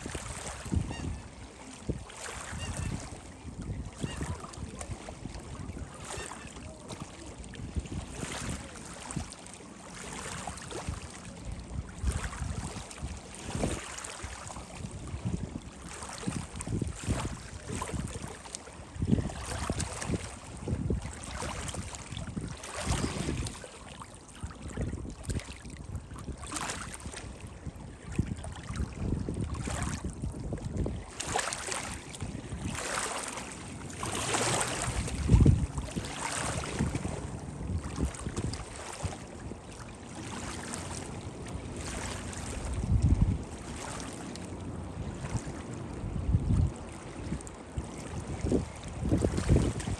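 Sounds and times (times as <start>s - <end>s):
wind buffeting microphone: 0.0s - 9.4s, 10.0s - 23.6s, 24.4s - 49.9s
waves lapping and splashing: 0.0s - 49.9s.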